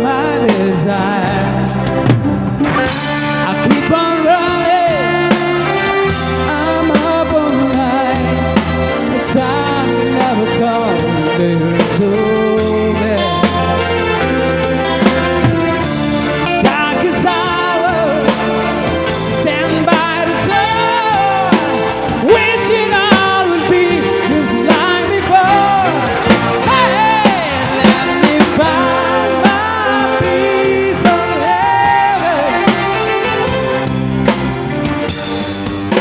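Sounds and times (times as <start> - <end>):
rock band playing ballad: 0.0 - 36.0.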